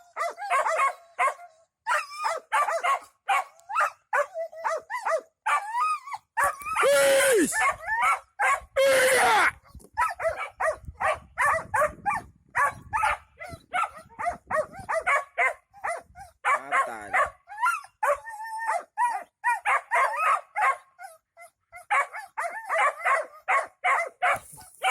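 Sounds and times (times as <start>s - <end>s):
dog barking and yipping: 0.0s - 8.7s, 9.3s - 24.9s.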